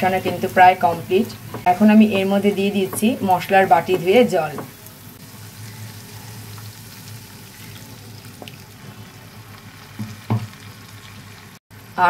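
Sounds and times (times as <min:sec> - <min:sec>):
spice paste sizzling in oil: 0:00.0 - 0:12.0.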